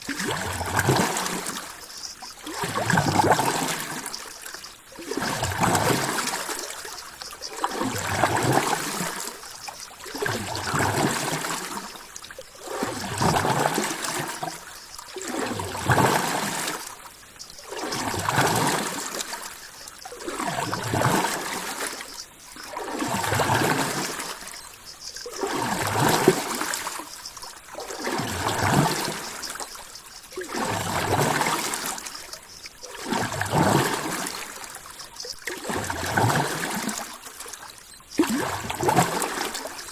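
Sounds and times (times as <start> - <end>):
ocean water washing: 0.0 - 39.9.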